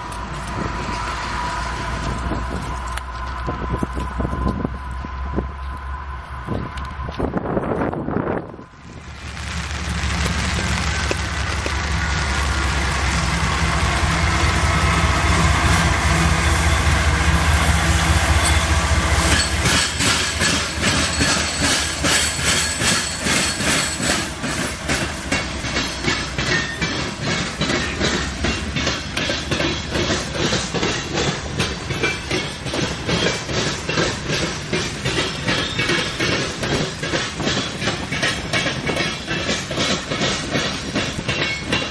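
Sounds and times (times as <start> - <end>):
train wheels clickety-clack: 0.0 - 8.6, 9.7 - 41.9
diesel locomotive engine droning: 0.0 - 41.9.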